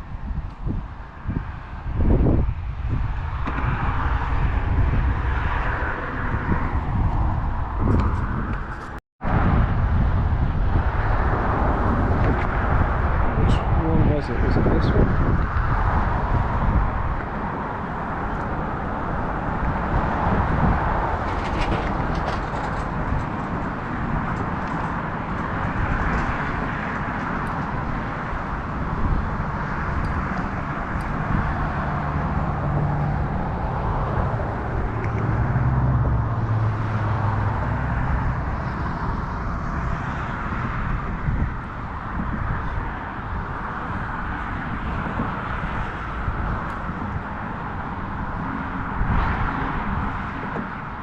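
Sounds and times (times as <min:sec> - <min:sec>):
low engine-like hum: 0:00.0 - 0:51.0
wind noise on microphone: 0:00.0 - 0:51.0.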